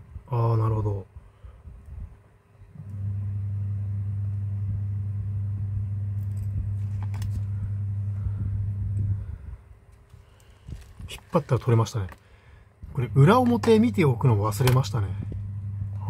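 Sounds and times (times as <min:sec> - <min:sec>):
low motor hum: 0:01.6 - 0:11.3, 0:12.4 - 0:16.0.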